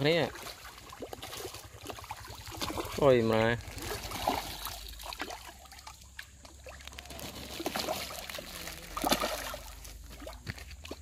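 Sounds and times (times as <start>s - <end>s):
fish splashing and slurping: 0.0s - 11.0s.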